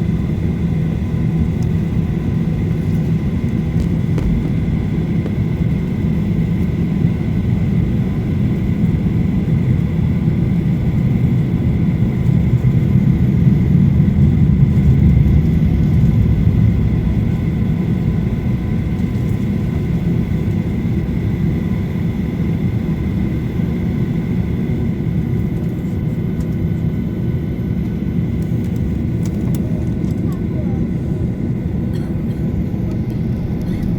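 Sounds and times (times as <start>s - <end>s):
aircraft cabin low rumble: 0.0s - 33.9s
jet engine whine: 0.0s - 33.9s.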